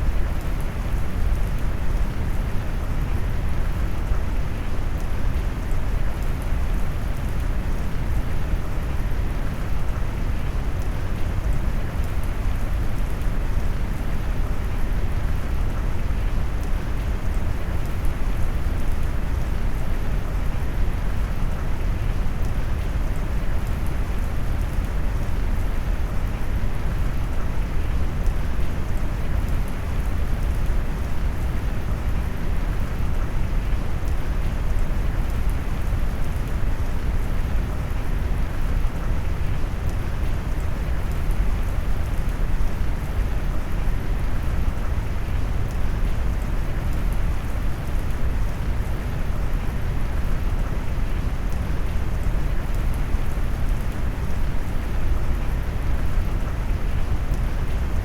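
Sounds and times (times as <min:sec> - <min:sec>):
rain: 0:00.0 - 0:58.0.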